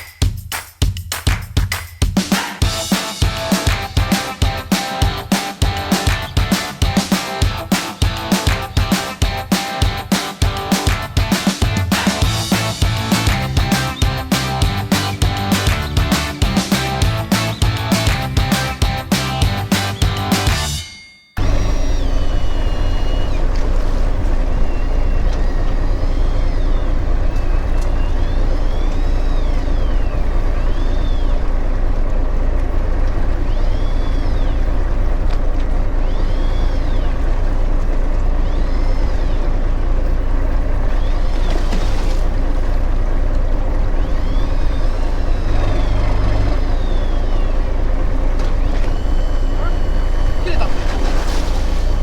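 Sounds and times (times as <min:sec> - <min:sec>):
boat engine running: 0:02.6 - 0:20.8, 0:21.4 - 0:52.0.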